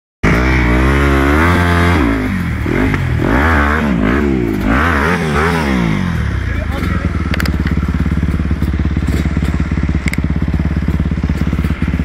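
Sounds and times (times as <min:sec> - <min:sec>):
motorcycle engine revving: 0:00.2 - 0:12.0.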